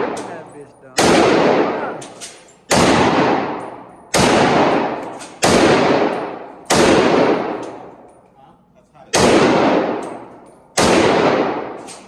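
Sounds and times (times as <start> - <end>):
echoing gunshots: 0.0 - 8.1, 9.1 - 12.0.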